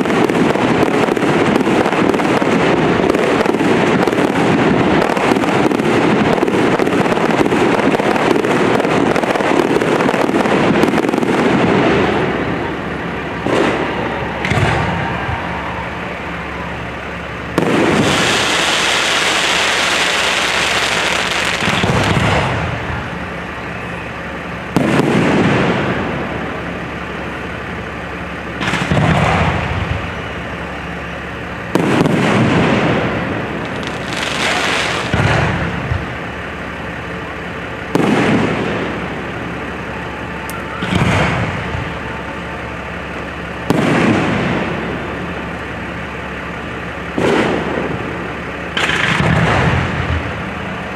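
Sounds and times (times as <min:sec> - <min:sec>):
firework shells bursting: 0:00.0 - 0:50.8
hissing crackle of fireworks: 0:00.0 - 0:50.9.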